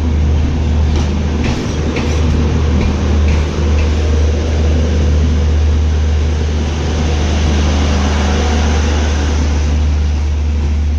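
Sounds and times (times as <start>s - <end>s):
passenger train rumbling past: 0.0s - 10.9s.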